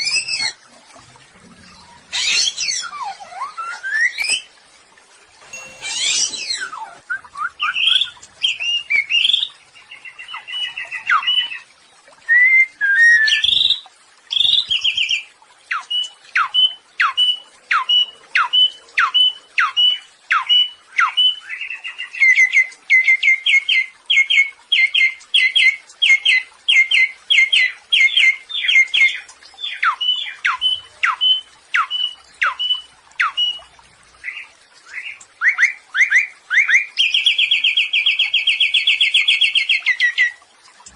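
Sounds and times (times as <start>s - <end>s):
songbird singing: 5.5s - 40.9s.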